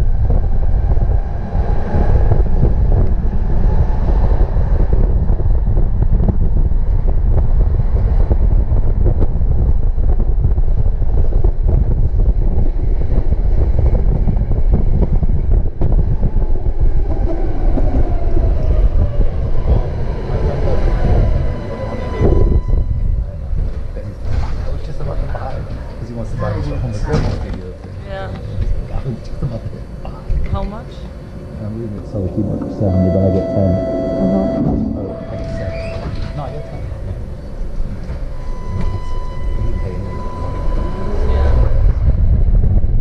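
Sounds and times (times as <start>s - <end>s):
tram wheels rumbling on rail: 0.0s - 33.7s, 34.3s - 43.0s
tram whine: 0.0s - 43.0s.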